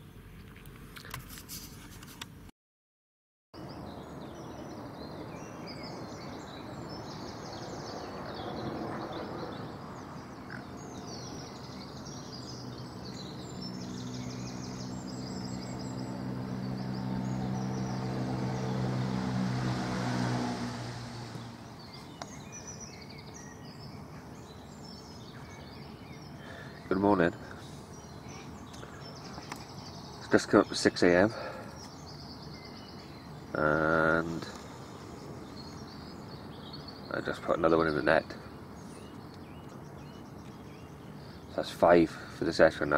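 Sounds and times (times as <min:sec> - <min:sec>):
songbirds singing: 0:00.0 - 0:01.0, 0:03.6 - 0:42.9
distant engine hum: 0:03.6 - 0:42.9.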